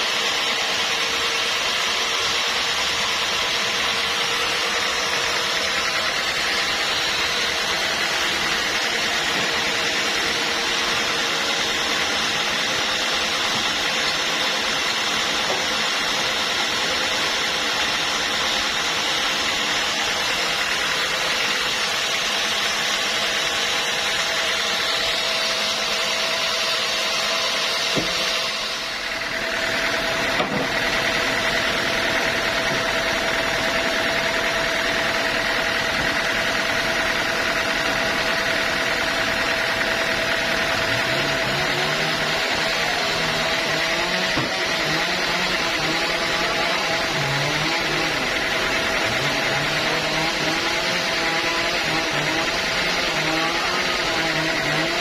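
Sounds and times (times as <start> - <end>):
bandsaw cutting log: 0.0 - 55.0
sawmill engine running: 0.0 - 55.0.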